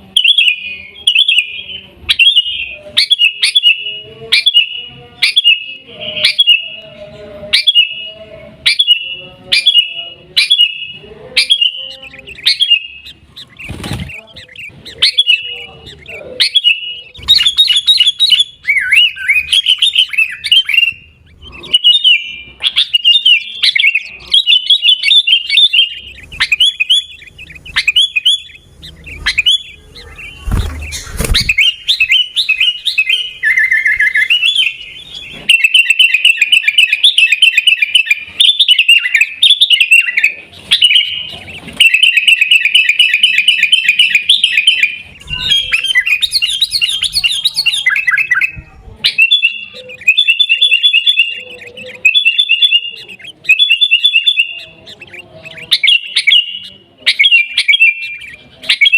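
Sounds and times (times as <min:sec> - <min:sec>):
bird chirping: 0:00.0 - 0:58.9.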